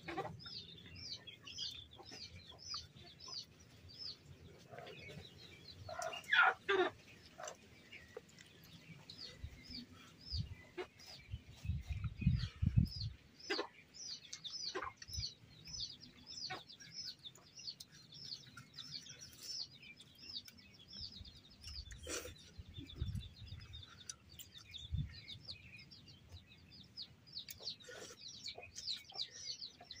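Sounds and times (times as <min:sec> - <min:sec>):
chicken clucking: 0:00.0 - 0:25.6, 0:26.2 - 0:30.0
small birds chirping: 0:00.0 - 0:30.0.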